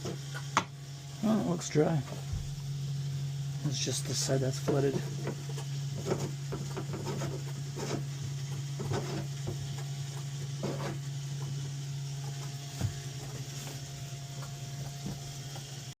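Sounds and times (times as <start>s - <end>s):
electric pump humming: 0.0s - 16.0s.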